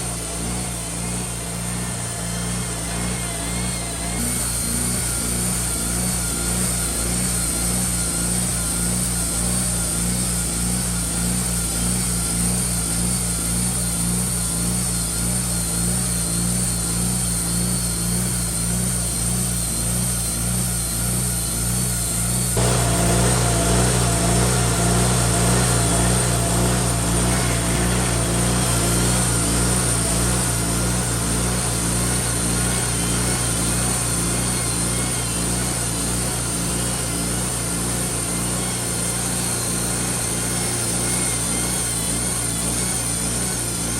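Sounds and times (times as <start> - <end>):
engine running with low pulse: 0.0 - 43.9.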